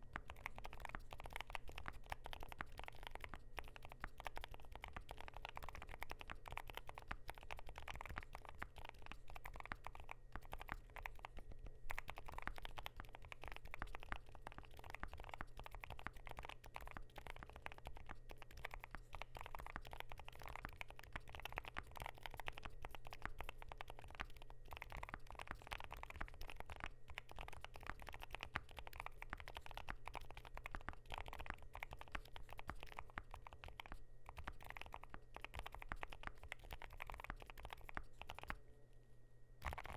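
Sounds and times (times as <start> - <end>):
typing on mechanical keyboard: 0.0 - 38.6, 39.6 - 39.9.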